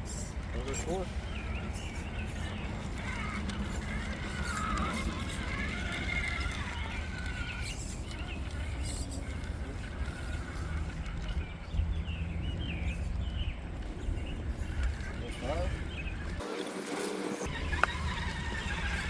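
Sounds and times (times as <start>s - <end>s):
electric motor and gears whining: 0.0s - 19.0s
steady low hum: 0.0s - 19.0s.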